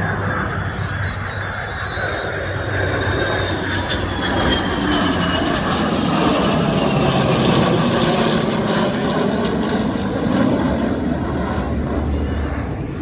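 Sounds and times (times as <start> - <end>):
airplane engines flying by: 0.0 - 13.0.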